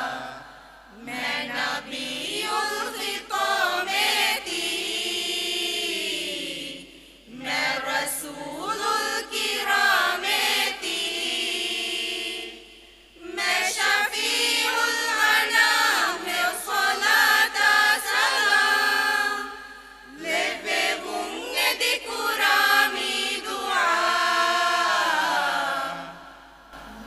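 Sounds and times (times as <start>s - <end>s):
group singing devotional song: 0.0s - 27.0s.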